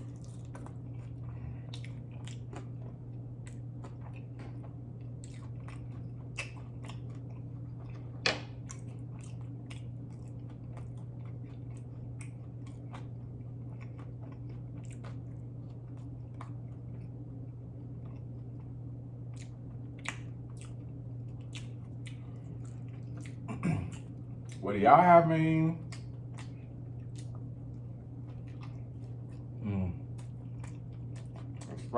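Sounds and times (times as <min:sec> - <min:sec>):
person chewing food: 0:00.0 - 0:24.7, 0:25.8 - 0:31.9.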